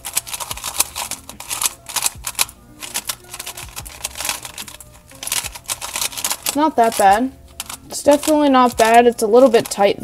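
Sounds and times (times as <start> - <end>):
plastic puzzle cube clicking: 0.0 - 9.7.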